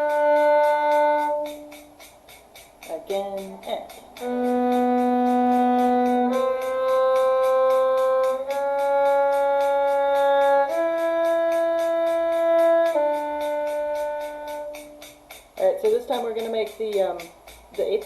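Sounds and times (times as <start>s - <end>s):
fast even ticking beat: 0.0s - 18.0s
long steady held notes: 0.0s - 18.0s.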